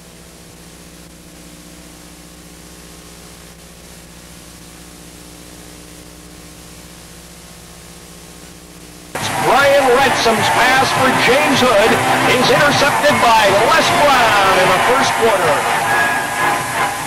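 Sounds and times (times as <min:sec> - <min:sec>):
low electrical hum: 0:00.0 - 0:14.4
tape hiss: 0:00.0 - 0:17.0.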